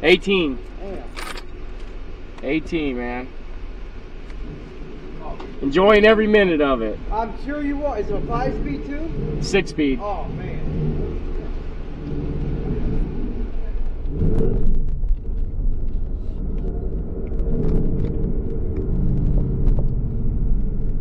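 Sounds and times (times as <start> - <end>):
car engine rumble inside cabin: 0.0 - 21.0.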